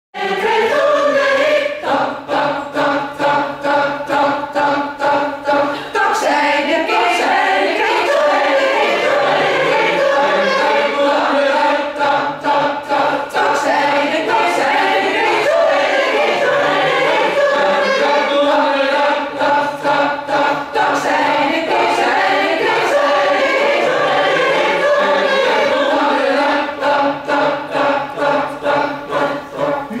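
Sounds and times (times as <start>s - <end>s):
choir singing: 0.2s - 30.0s.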